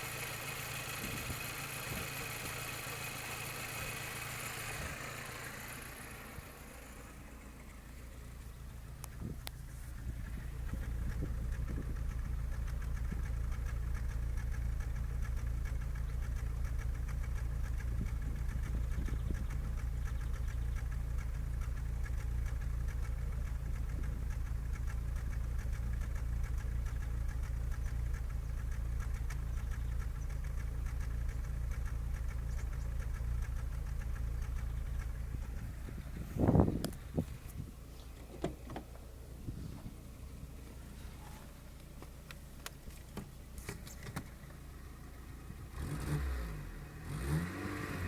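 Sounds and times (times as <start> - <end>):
car engine idling with misfire: 0.0 - 48.0.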